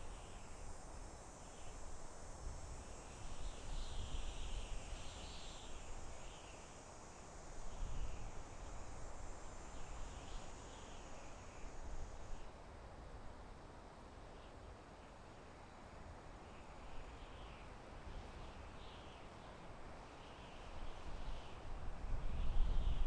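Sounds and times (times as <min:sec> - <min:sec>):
insects chorus: 0:00.0 - 0:12.6, 0:13.4 - 0:23.0
wind blowing through forest: 0:00.0 - 0:23.0.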